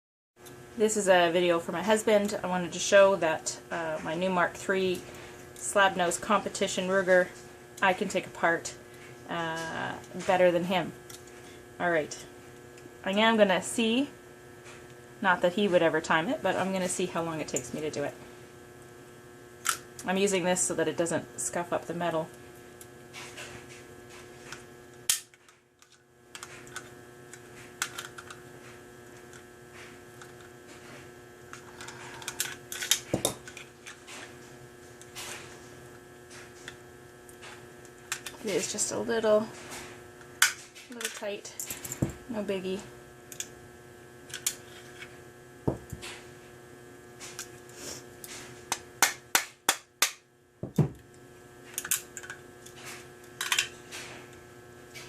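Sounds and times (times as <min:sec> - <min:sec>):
electrical hum: 0:00.4 - 0:55.0.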